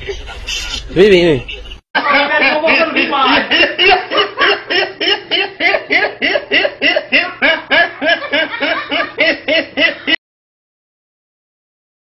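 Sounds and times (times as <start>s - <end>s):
man laughing uncontrollably: 0.0s - 10.2s.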